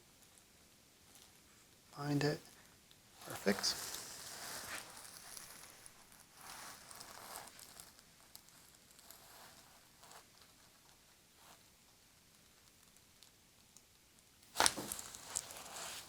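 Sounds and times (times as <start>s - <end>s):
faint rustling and handling: 1.0s - 13.4s, 14.5s - 16.0s.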